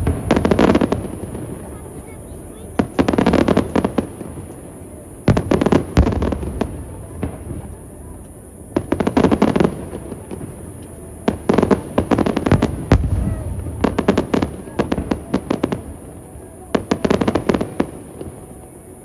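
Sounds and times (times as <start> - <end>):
fireworks cracks and bangs: 0.0 - 18.8.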